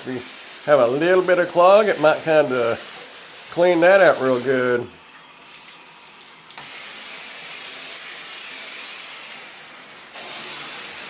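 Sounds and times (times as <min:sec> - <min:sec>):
water jet spraying into bathtub: 0:00.0 - 0:11.0.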